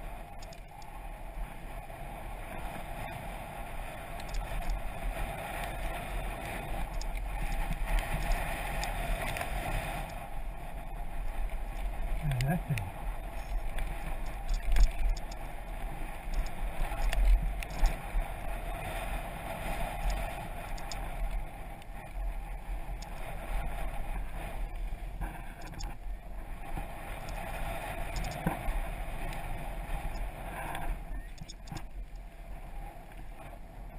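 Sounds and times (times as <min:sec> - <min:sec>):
bike clicks and rattles: 0:00.0 - 0:01.4, 0:02.6 - 0:32.3
wind buffeting microphone: 0:00.0 - 0:33.9.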